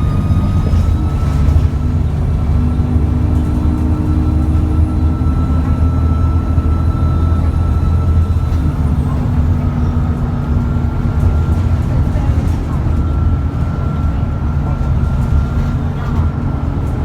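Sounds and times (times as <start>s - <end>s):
bus diesel engine rumbling: 0.0s - 17.0s.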